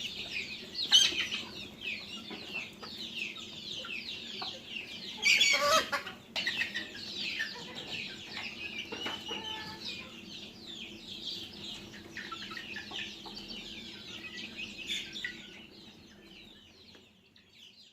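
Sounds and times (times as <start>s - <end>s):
chickens calling and clucking: 0.0s - 17.9s.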